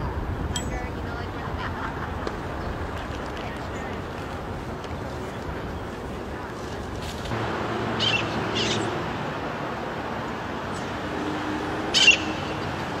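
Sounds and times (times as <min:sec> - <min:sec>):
city background noise: 0:00.0 - 0:13.0.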